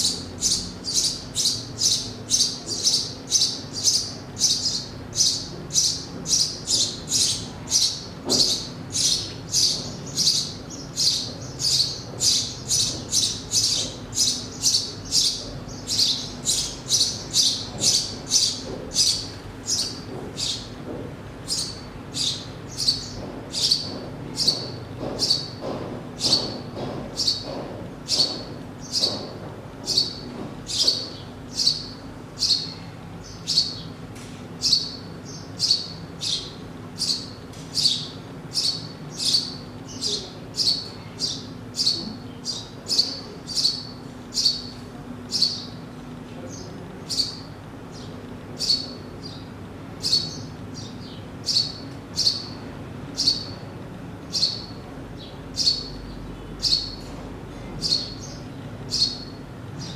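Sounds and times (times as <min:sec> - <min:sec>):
small songbird chirping: 0:00.0 - 0:20.7, 0:21.4 - 0:34.0, 0:34.6 - 0:45.8, 0:46.4 - 0:53.7, 0:54.3 - 0:57.1, 0:57.8 - 0:59.9.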